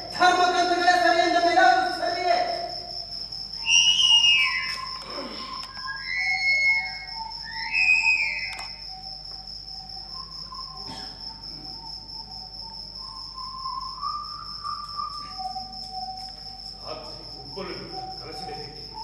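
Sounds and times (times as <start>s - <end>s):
cricket chirring: 0.0s - 19.0s
faint whistle-like tones: 0.0s - 19.0s.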